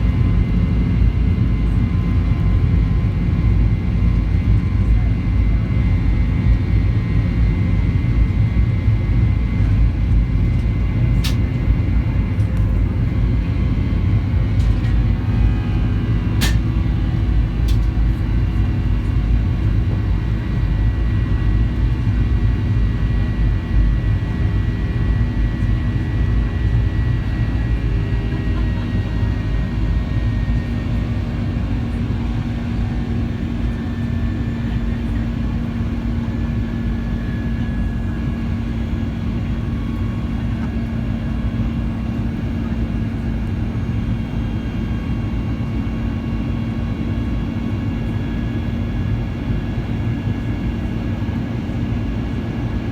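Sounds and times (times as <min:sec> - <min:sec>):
jet engine rumble: 0:00.0 - 0:52.9.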